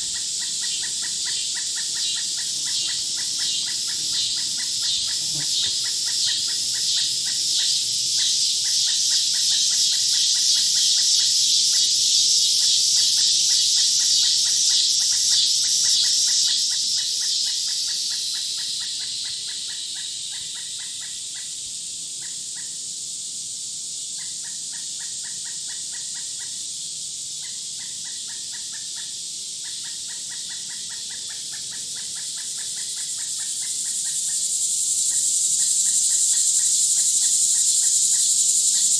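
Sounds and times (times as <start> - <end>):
loud high pulsing insect buzz: 0.0 - 38.9
rapidly pulsed insect chirping: 0.0 - 38.9.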